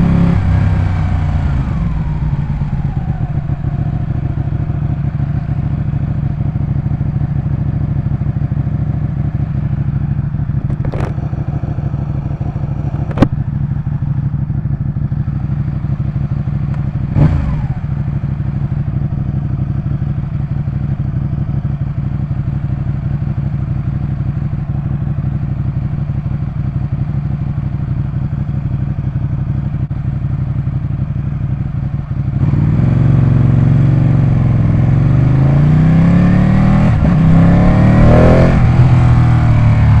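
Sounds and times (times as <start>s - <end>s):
motorcycle engine idling and revving: 0.0s - 40.0s.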